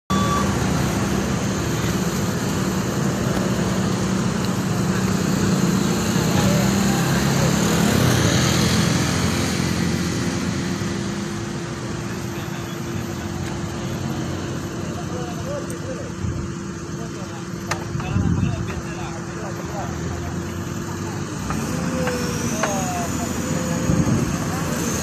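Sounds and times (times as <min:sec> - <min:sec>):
heavy diesel engines humming: 0:00.1 - 0:25.0.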